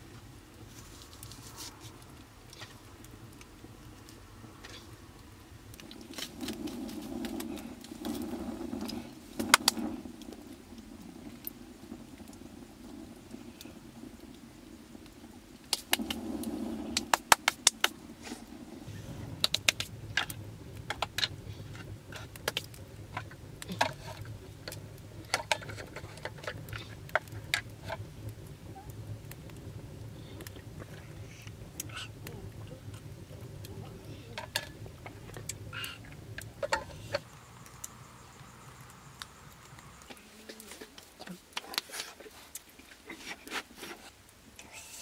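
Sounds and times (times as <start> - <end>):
low rumbling noise: 0.0 - 43.1
firewood and metal skewers clinking: 0.6 - 13.8, 14.4 - 44.6.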